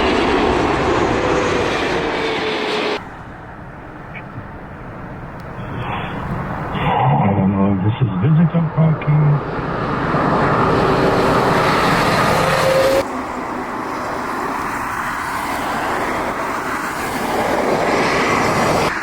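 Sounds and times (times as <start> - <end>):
jet airliner engines passing: 0.0 - 19.0.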